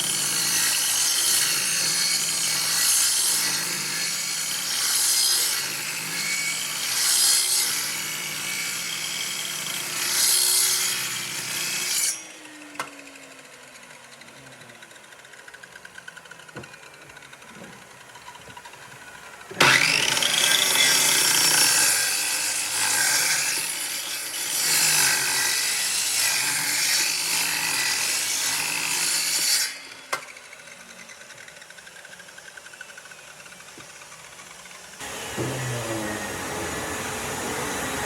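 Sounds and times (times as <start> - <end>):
power tool cutting wood: 0.0 - 38.0.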